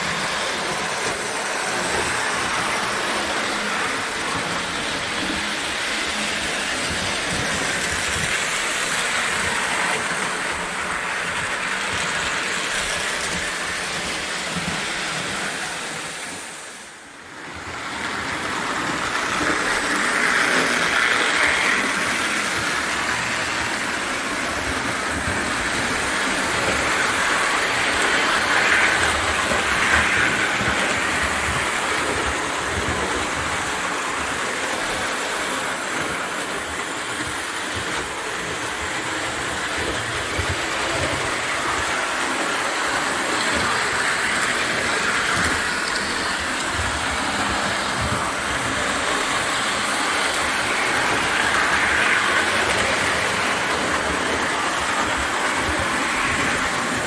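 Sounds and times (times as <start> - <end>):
toy train whirring on rails: 0.0 - 57.0.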